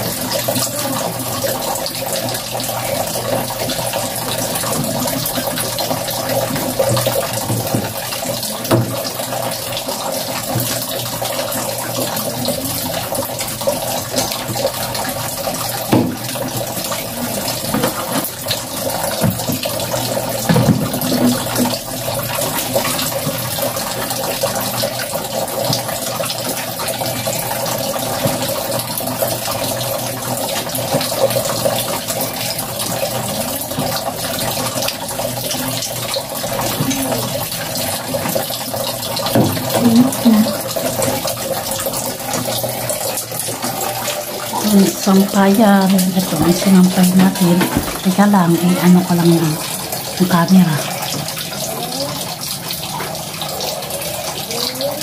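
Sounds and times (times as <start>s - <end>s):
water running into basin: 0.0s - 55.0s.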